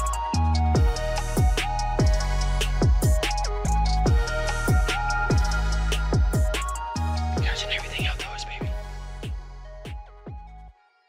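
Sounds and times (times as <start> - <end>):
electronic music with beat: 0.0 - 10.8.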